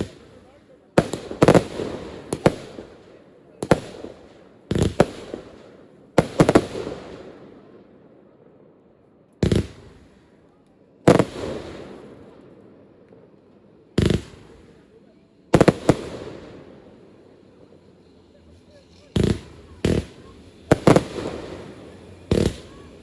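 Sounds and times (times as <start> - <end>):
fireworks bangs with echo: 0.0 - 8.8, 9.4 - 10.4, 11.0 - 23.0.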